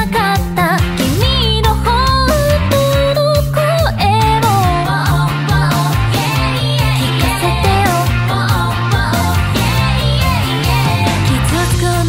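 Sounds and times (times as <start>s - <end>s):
pop-rock band playing: 0.0s - 12.0s
person singing: 1.6s - 12.0s.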